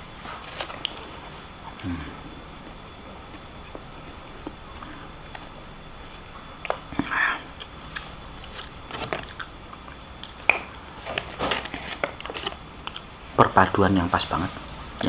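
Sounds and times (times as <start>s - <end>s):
person chewing: 0.3s - 13.3s.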